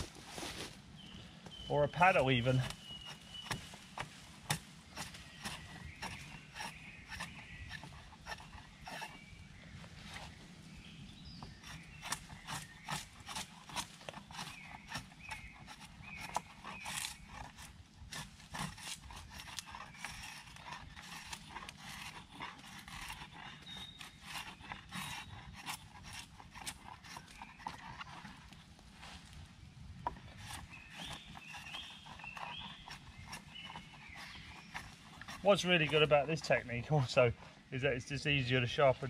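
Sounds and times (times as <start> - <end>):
knife shaving wood: 1.7 - 9.4, 11.4 - 29.4, 30.0 - 37.5.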